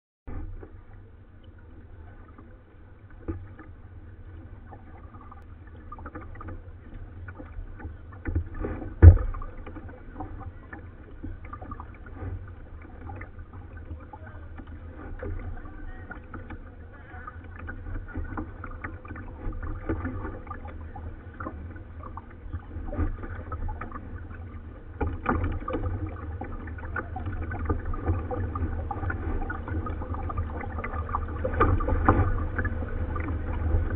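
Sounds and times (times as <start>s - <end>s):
low steady rumble: 0.3s - 33.9s
paddle strokes splashing: 0.3s - 33.9s.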